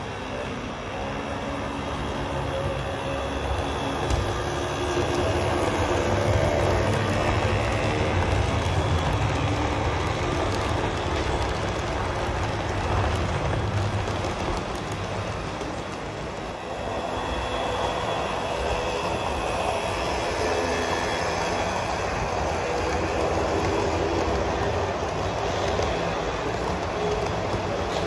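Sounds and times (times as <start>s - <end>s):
train clatter and squeal: 0.0s - 28.0s
train wheels rumbling on track: 0.0s - 28.0s.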